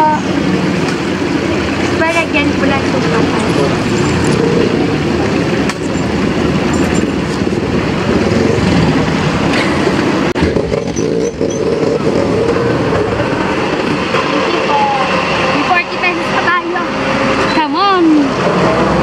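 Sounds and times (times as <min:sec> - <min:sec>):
loud street traffic rumble: 0:00.0 - 0:19.0.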